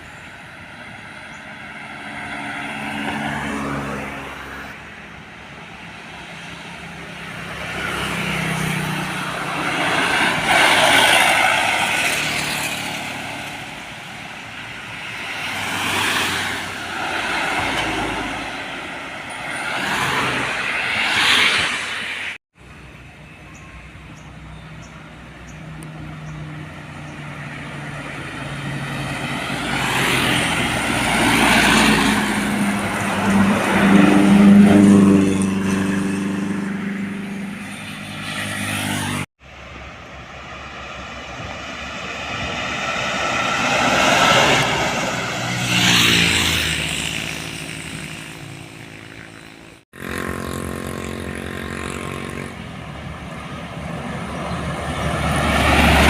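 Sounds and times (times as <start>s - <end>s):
diesel trucks driving past: 0.0s - 56.0s.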